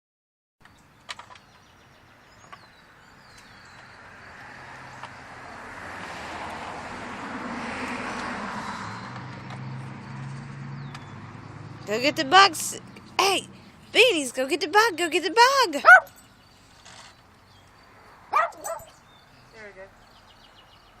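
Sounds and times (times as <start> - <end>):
vehicle passing by: 2.9 - 21.0.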